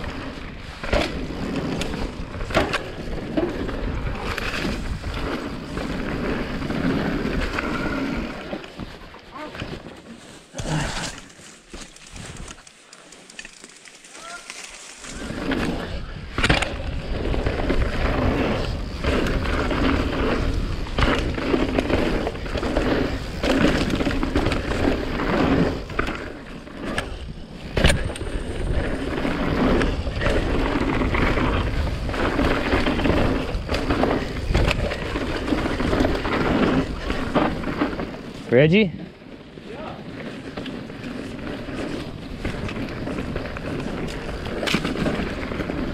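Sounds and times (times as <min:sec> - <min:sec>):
bike rattling: 0:00.0 - 0:45.9
bike tyres rolling on dirt: 0:00.0 - 0:45.9.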